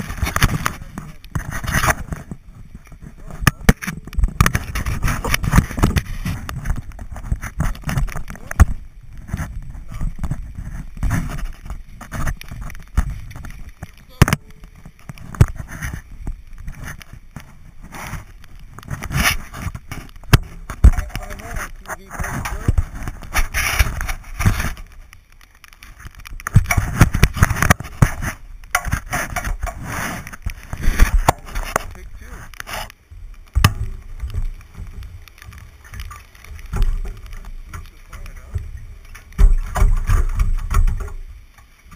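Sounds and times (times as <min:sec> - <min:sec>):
knocks and thumps: 0:00.0 - 0:25.0, 0:25.7 - 0:41.9
pine branches rustling and scraping: 0:00.0 - 0:41.9
rain jacket rubbing microphone: 0:00.0 - 0:41.9.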